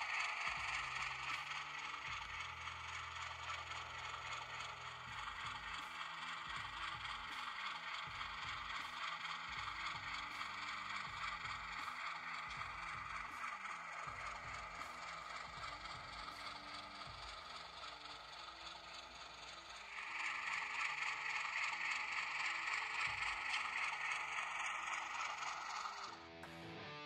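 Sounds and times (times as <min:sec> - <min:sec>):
train wheels clattering: 0:00.0 - 0:26.2
model train motor whining: 0:00.0 - 0:26.4.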